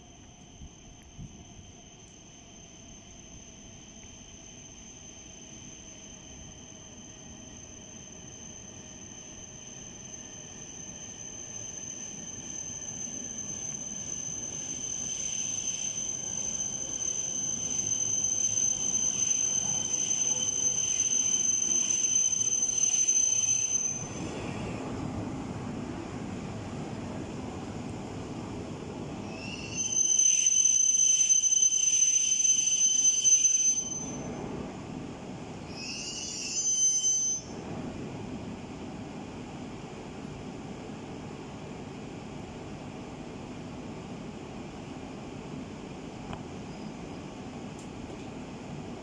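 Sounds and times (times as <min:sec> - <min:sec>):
low falling train tone: 0:00.0 - 0:49.0
train electric whine: 0:00.0 - 0:49.0.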